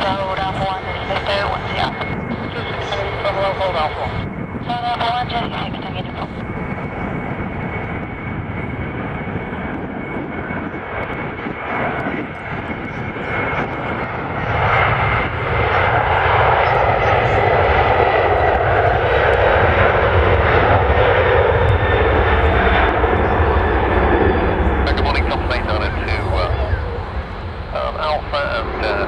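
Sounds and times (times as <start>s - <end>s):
jet engines roaring: 0.0s - 29.0s.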